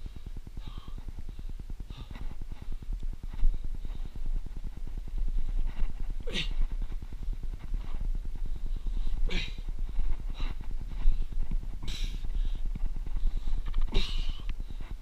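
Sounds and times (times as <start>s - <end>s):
heavy breaths: 0.0s - 15.0s
wind buffeting microphone: 0.0s - 15.0s.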